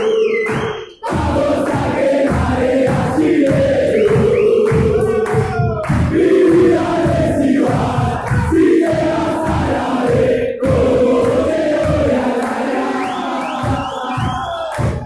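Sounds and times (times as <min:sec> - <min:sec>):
low beat: 0:00.0 - 0:12.4
football supporters chanting: 0:00.0 - 0:15.0.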